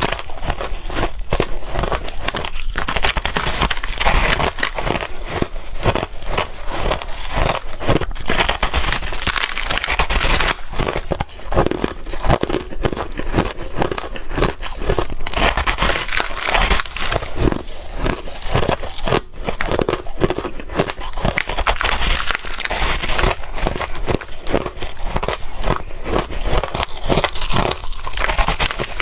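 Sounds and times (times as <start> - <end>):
person chewing ice: 0.0 - 29.0.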